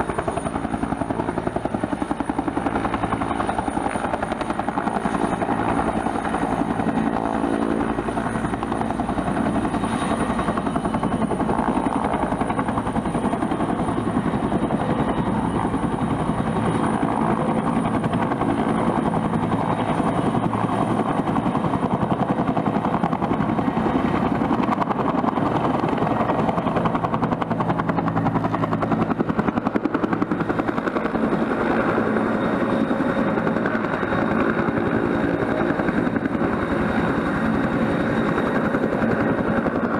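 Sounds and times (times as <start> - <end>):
helicopter rotor beating: 0.0 - 39.9
turbine engine whine: 0.0 - 39.9.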